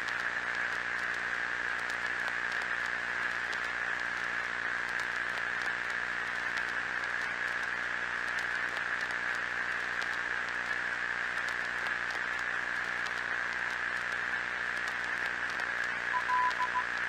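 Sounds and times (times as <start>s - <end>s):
static hiss with crackles: 0.0s - 17.0s.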